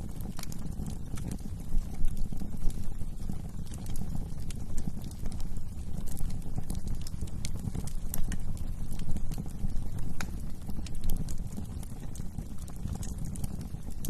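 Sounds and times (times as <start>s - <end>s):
wood fire crackling in fireplace: 0.0s - 14.0s.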